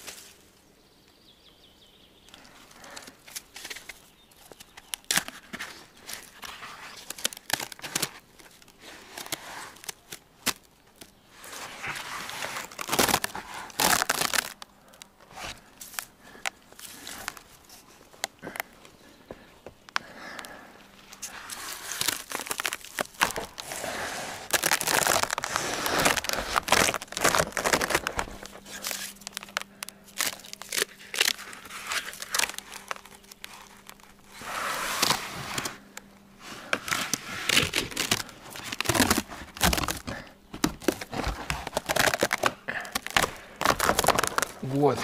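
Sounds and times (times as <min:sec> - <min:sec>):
bark tearing and crackling: 0:02.4 - 0:18.9, 0:19.8 - 0:45.0.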